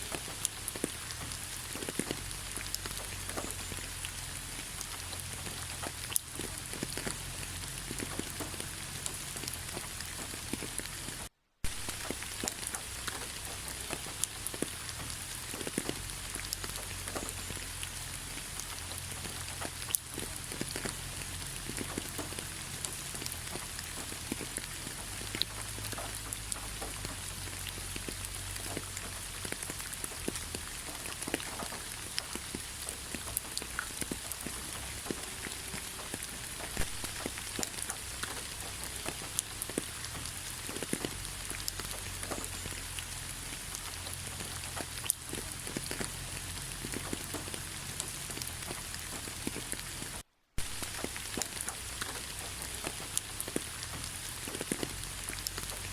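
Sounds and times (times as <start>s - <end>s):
rain drops ticking: 0.0s - 55.9s
rain hiss: 0.0s - 55.9s.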